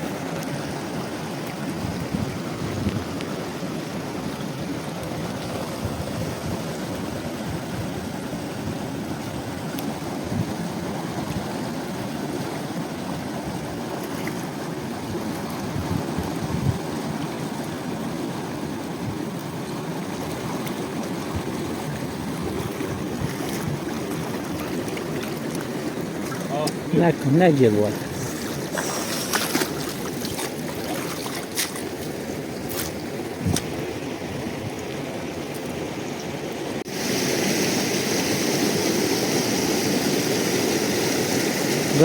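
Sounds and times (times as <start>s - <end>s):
flowing river water: 0.0s - 42.0s.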